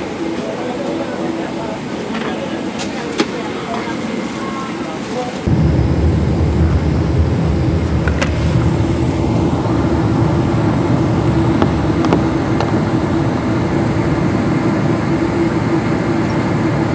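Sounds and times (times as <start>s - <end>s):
aircraft cabin rumble and hum: 0.0s - 16.9s.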